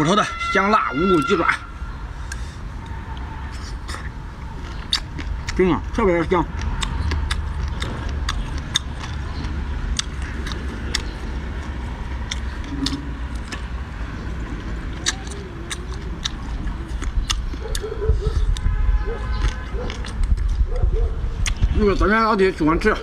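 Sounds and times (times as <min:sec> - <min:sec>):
steady low rumble: 0:01.5 - 0:23.0
wet chewing mouth clicks: 0:02.2 - 0:21.7.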